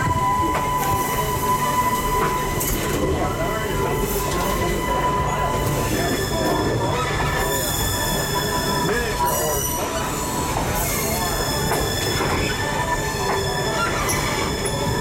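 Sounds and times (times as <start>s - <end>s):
wheel squeal: 0.0s - 15.0s.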